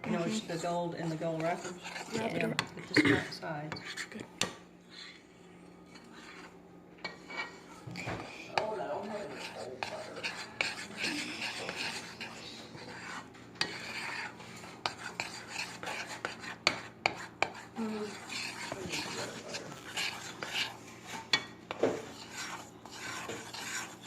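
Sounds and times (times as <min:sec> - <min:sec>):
spoon stirring thick mixture: 0:00.0 - 0:24.0.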